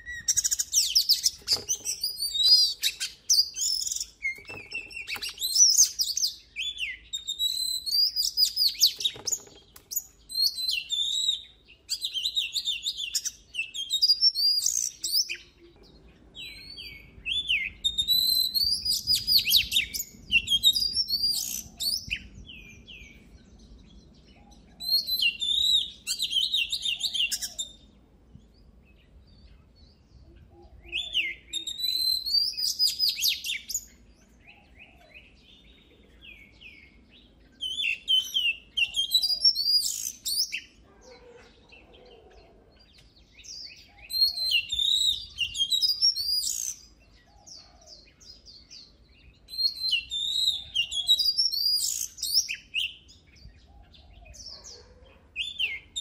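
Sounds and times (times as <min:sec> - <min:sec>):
bird singing whistles and trills: 0:00.0 - 0:28.0, 0:28.6 - 0:56.0.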